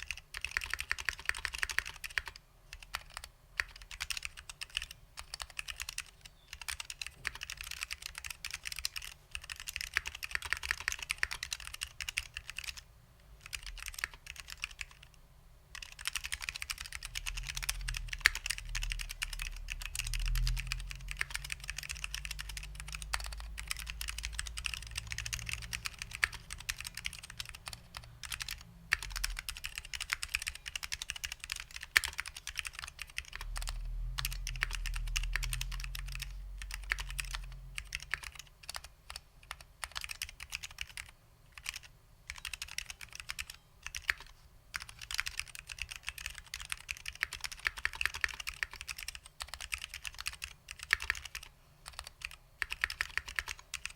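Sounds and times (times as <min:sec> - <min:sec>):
keyboard typing: 0:00.0 - 0:53.9.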